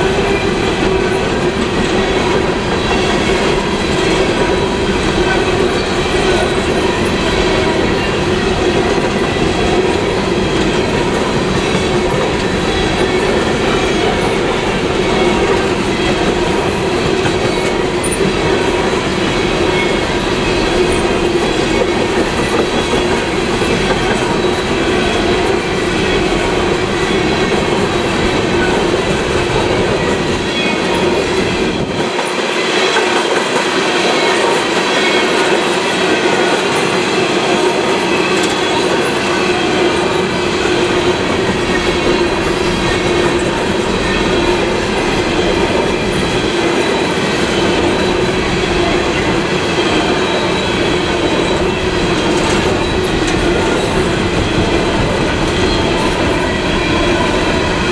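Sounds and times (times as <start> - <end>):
freight train rolling on rails: 0.0 - 57.9.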